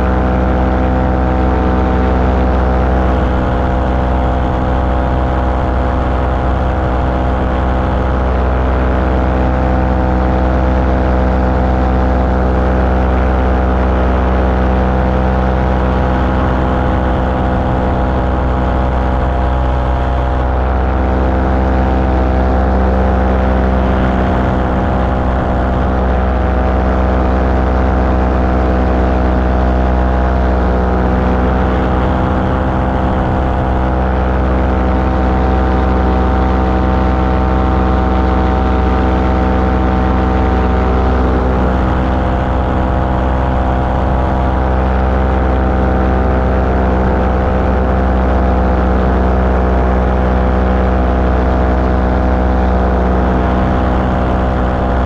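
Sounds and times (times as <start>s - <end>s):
small aircraft engine drone: 0.0s - 55.0s.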